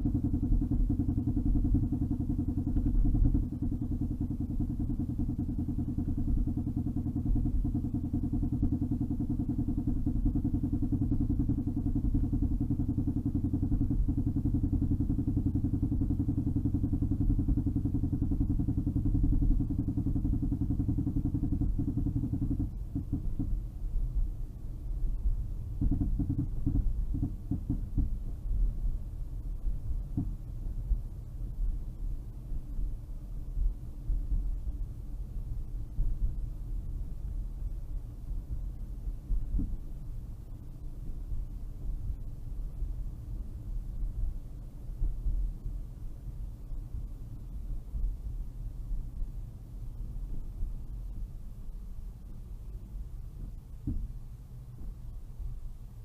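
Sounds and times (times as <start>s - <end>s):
rapid low drumming from car: 0.0s - 56.0s.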